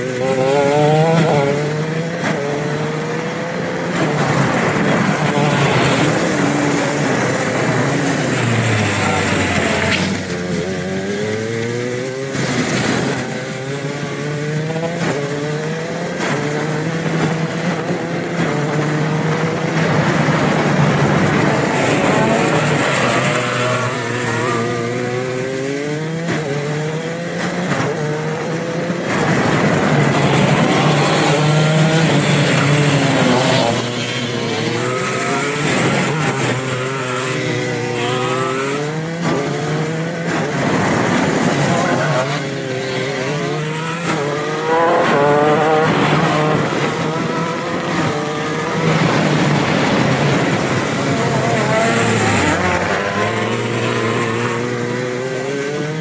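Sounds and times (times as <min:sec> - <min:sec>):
kart engines racing: 0:00.0 - 0:56.0.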